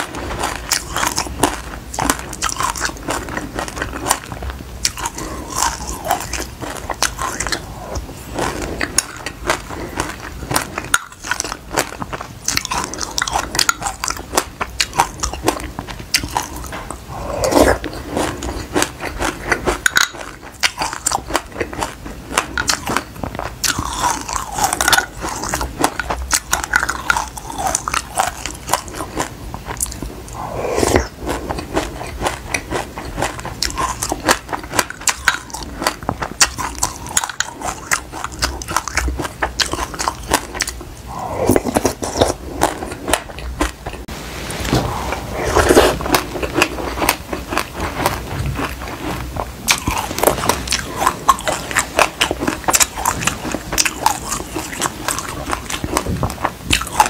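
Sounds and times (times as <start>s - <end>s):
crunchy chewing: 0.0s - 44.1s, 44.7s - 57.0s.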